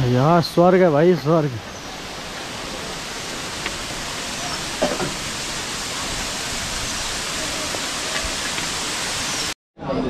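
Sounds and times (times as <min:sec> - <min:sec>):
rushing mountain water: 0:00.0 - 0:09.6.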